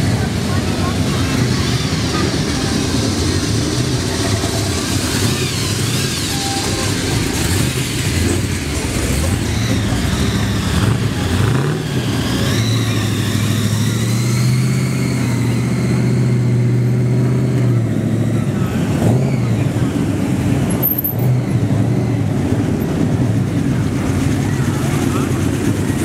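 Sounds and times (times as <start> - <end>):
car engine revving: 0.0 - 26.0
cars driving slowly past: 0.0 - 26.0.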